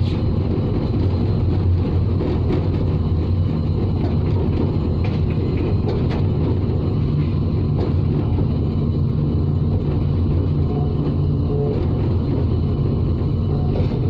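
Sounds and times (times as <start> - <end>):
locomotive engine rumble: 0.0 - 14.0
train rolling over track: 0.0 - 14.0.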